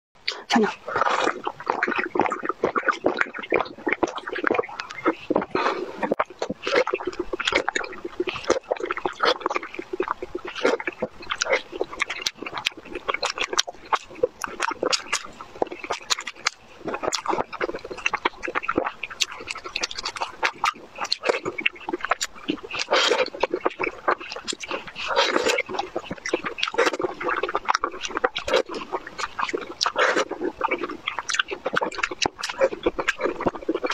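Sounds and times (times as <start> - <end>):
wet chewing and lip smacks: 0.2 - 33.9.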